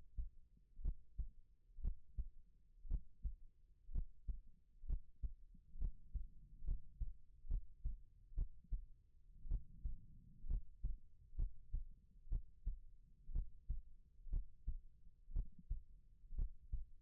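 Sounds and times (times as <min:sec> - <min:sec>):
faint low rumble: 0:00.0 - 0:17.0
human heartbeat: 0:00.0 - 0:17.0.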